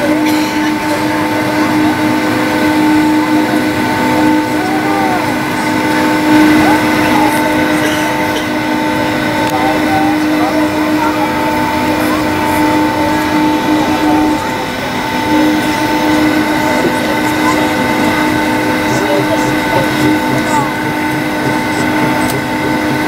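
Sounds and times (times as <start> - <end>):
jet engines droning: 0.0 - 23.0
steady whining tones: 0.0 - 23.0.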